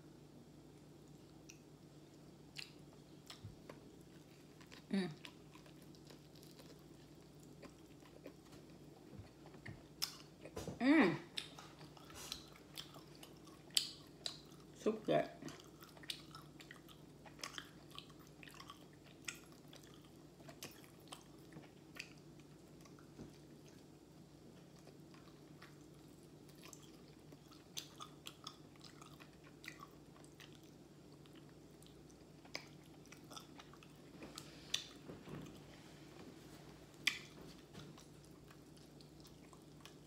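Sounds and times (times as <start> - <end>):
faint low hum: 0.0 - 40.0
person chewing crispy food: 1.0 - 10.6, 11.3 - 14.8, 15.4 - 36.2, 36.9 - 40.0.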